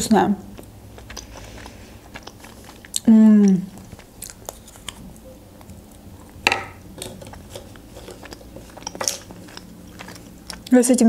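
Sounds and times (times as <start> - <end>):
chocolate shell crunching: 0.5 - 10.8.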